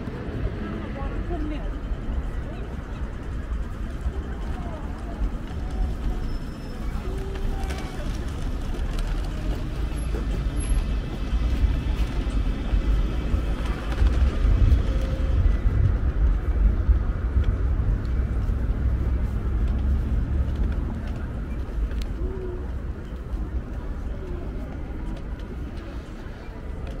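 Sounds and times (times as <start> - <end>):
rumble of passing vehicles: 0.0 - 27.0.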